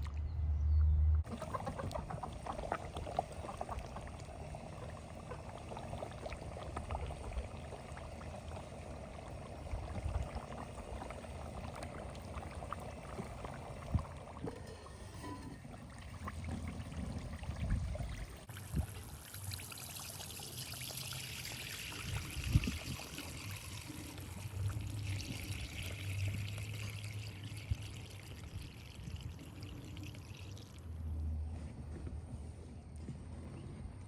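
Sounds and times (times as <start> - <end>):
liquid pouring in trickling stream: 1.3 - 31.2.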